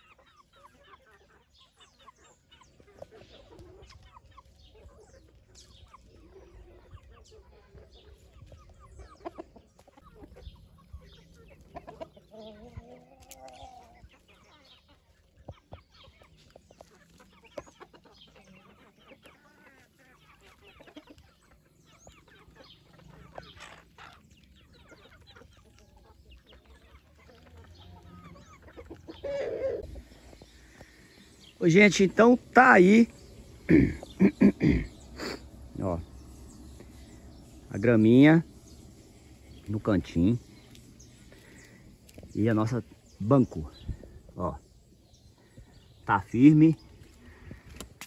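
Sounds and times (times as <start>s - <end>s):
chickens clucking quietly: 0.0s - 48.0s.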